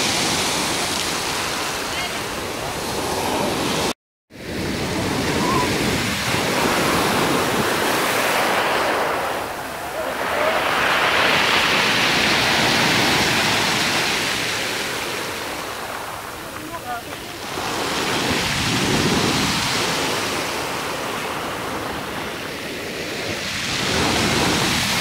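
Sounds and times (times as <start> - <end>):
surf breaking on pebble beach: 4.6 - 25.0.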